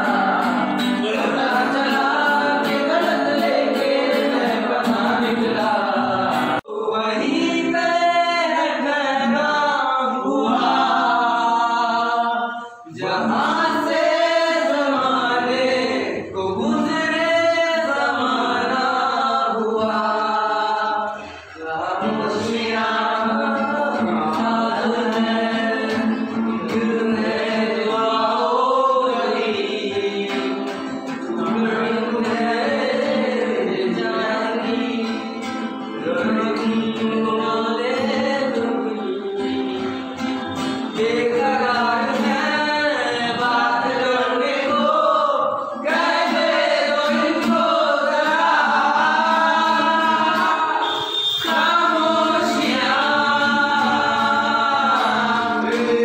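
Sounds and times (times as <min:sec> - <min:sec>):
men singing together: 0:00.0 - 0:56.0
strummed acoustic guitar: 0:00.0 - 0:56.0.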